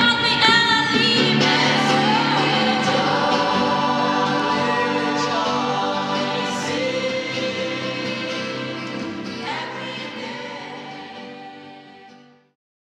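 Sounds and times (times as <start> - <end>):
choir singing in harmony: 0.9 - 12.5.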